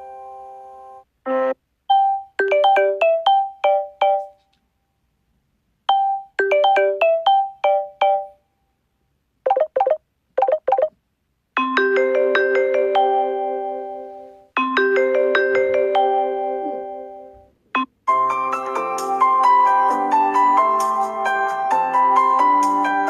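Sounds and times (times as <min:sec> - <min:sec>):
ringtone melody: 0:00.0 - 0:04.4, 0:05.9 - 0:08.4, 0:09.5 - 0:11.0, 0:11.6 - 0:23.0
ringtone with held chords: 0:00.0 - 0:04.4, 0:05.8 - 0:08.5, 0:09.5 - 0:11.0, 0:11.6 - 0:23.0.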